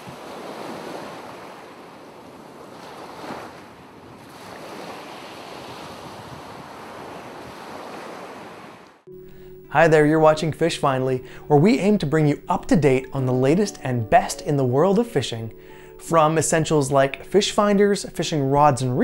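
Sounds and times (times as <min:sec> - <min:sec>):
ocean waves washing: 0:00.0 - 0:19.0.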